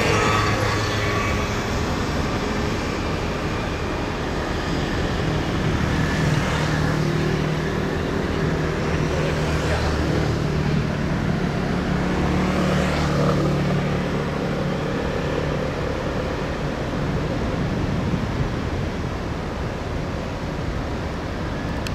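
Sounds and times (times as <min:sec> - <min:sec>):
low engine hum: 0:00.0 - 0:21.9
vehicles passing by: 0:00.0 - 0:21.9.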